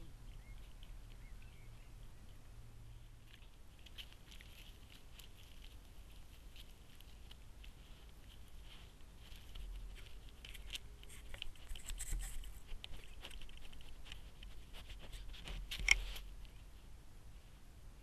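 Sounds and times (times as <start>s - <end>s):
animal rustling and clicks: 0.3s - 2.4s, 3.0s - 16.8s.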